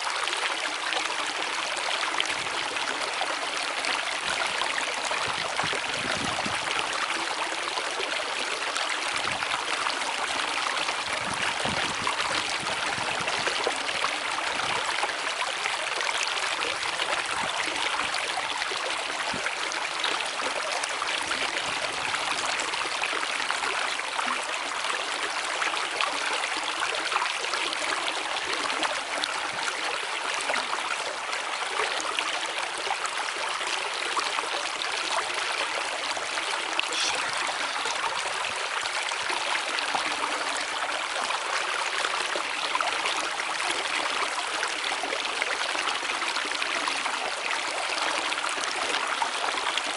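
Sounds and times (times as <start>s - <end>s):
stream rushing and babbling: 0.0s - 49.9s.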